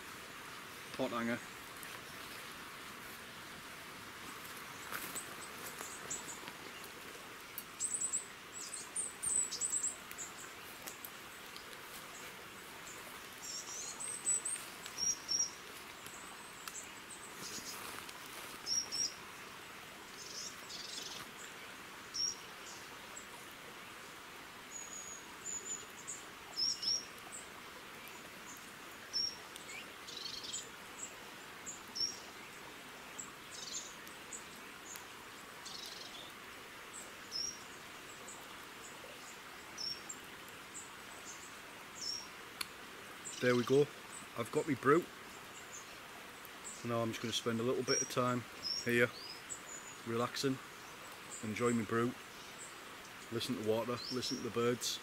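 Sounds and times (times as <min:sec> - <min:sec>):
running water: 0:00.0 - 0:55.0
small birds chirping: 0:00.0 - 0:55.0.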